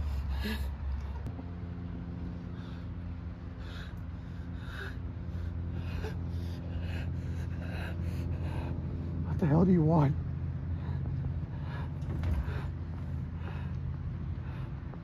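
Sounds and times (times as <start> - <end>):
person breathing heavily: 0.0 - 1.3, 2.2 - 9.3, 10.4 - 15.0
steady low hum: 0.0 - 15.0.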